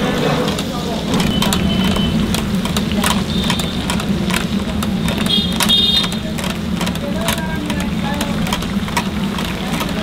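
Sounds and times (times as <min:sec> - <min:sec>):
oil crackling and spitting: 0:00.1 - 0:10.0.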